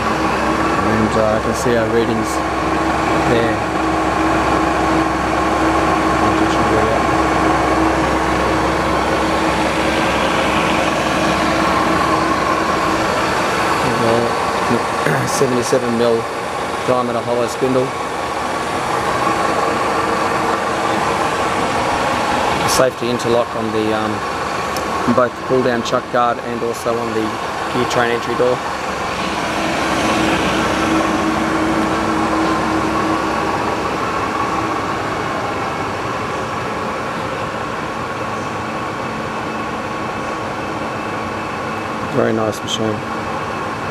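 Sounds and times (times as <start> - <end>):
lathe running with hum and whine: 0.0 - 43.9.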